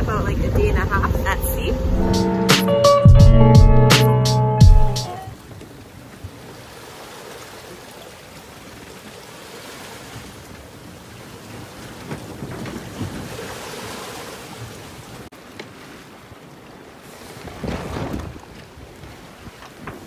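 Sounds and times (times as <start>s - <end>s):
wind: 0.0s - 3.0s, 5.0s - 20.0s
water rushing past boat: 0.0s - 20.0s.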